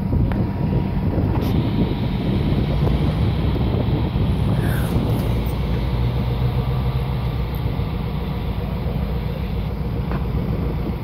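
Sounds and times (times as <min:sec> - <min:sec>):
diesel locomotive engine rumble: 0:00.0 - 0:11.0.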